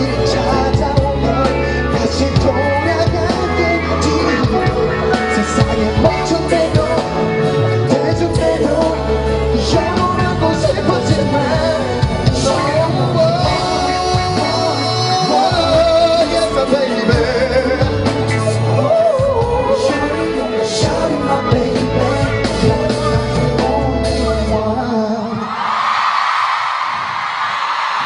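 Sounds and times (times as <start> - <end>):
band backing music: 0.0 - 25.6
man singing pop song: 0.0 - 25.9.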